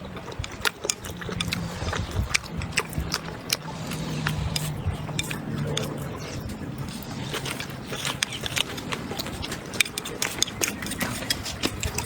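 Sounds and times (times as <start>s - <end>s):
chewing with sharp clicks: 0.0s - 12.0s
low steady hum: 0.0s - 12.0s.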